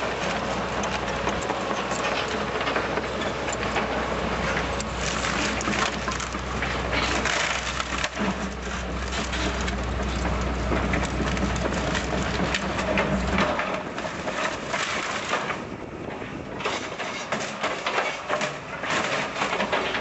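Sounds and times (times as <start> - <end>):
plastic and metal crunching: 0.0 - 15.8, 16.6 - 20.0
low engine hum: 0.0 - 17.0.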